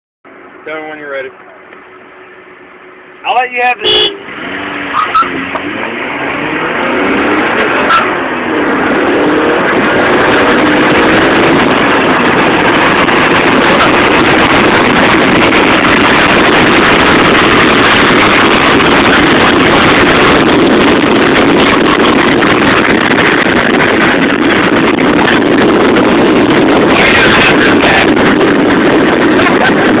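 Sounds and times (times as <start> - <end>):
wind and road noise: 0.2 - 30.0
car engine accelerating: 0.3 - 30.0.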